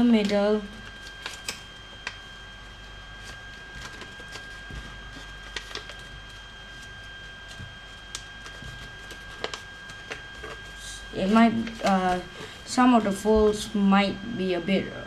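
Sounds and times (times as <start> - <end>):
faint high whine: 0.0 - 15.0
paper being folded and creased: 0.8 - 13.6.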